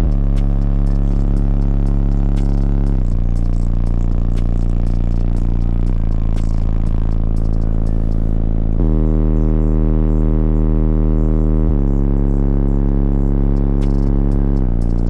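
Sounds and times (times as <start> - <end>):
bass-heavy music from subwoofers: 0.0 - 15.0.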